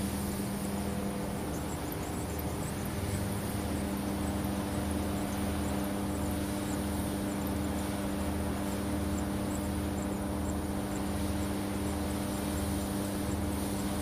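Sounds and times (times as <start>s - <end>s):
low pulsing throb: 0.0s - 14.0s
machinery hum: 0.0s - 14.0s.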